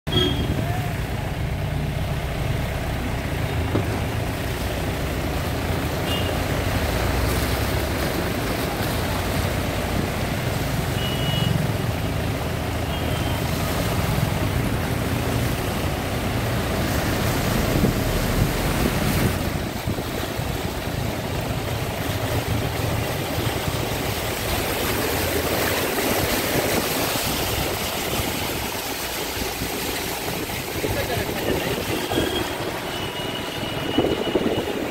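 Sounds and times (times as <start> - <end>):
floodwater splashing: 0.1 - 34.9.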